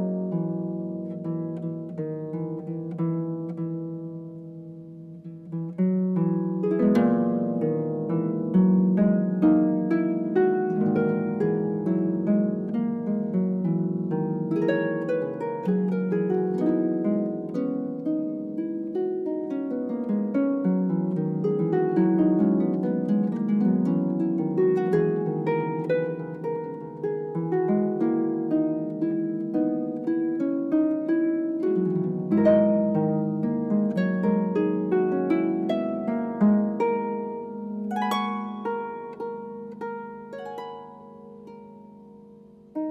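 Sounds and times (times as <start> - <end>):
harp playing: 0.0 - 42.9.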